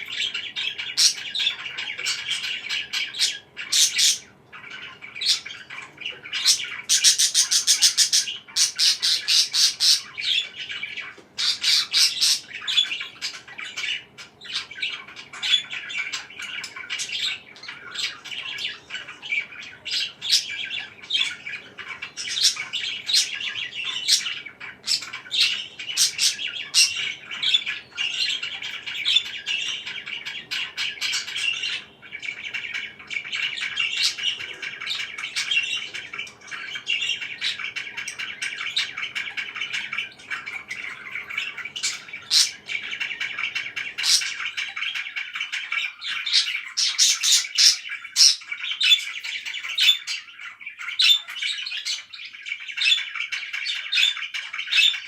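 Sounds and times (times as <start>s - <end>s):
faint low background hum: 0.0s - 55.0s
parakeet squawks: 0.0s - 55.0s
parakeets chattering and chirping: 0.0s - 55.0s.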